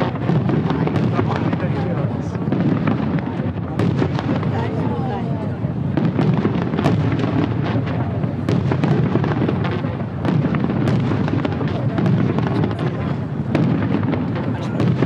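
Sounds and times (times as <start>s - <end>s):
low booming rumble of shells: 0.0s - 4.7s, 5.7s - 15.0s
firework bangs and crackles: 0.0s - 15.0s.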